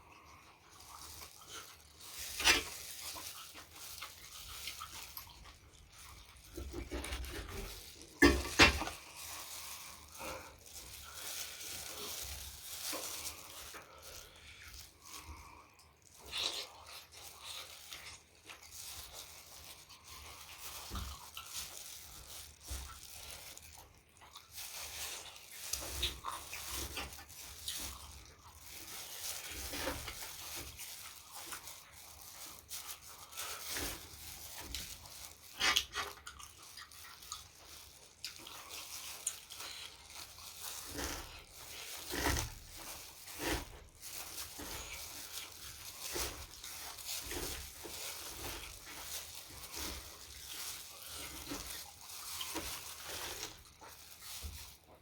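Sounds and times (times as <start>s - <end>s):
wet chewing and crunching: 0.0s - 55.0s.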